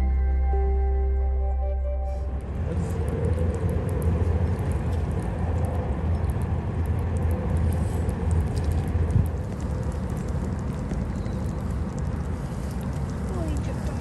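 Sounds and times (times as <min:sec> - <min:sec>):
rain hiss: 0:02.1 - 0:14.0
raindrop ticks: 0:02.3 - 0:14.0
wind buffeting microphone: 0:02.3 - 0:14.0.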